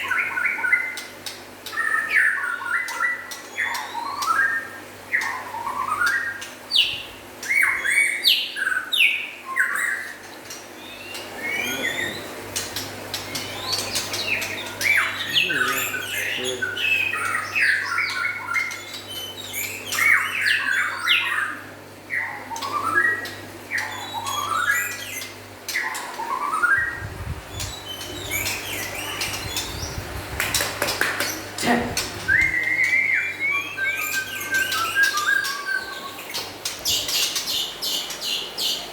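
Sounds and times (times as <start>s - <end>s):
birds singing whistled phrases: 0.0s - 12.4s, 13.2s - 38.9s.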